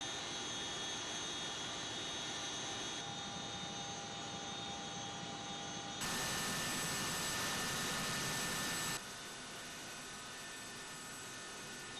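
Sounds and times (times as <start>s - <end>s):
helicopter turbine engine whining: 0.0s - 11.9s.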